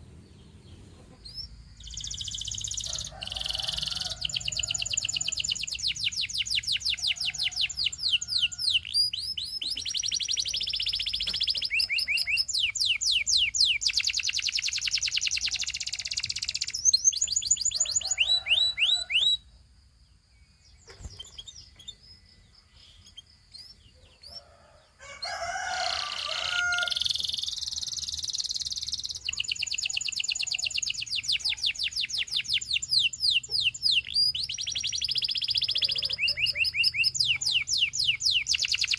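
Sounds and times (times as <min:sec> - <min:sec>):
canary singing trills: 0:00.0 - 0:19.5, 0:20.5 - 0:38.9.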